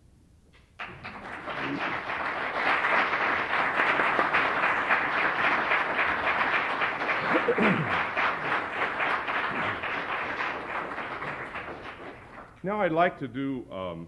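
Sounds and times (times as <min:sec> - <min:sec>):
audience applauding: 0:00.8 - 0:12.6.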